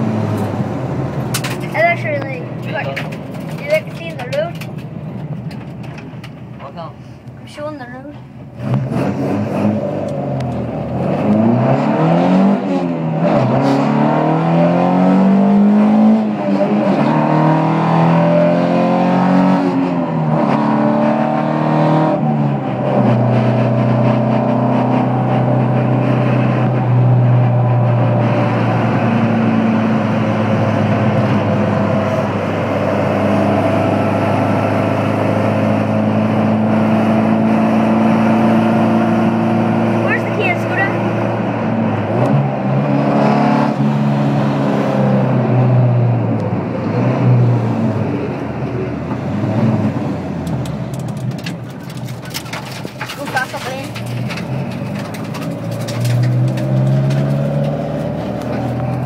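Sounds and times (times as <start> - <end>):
car engine revving through gears: 8.4 - 59.0.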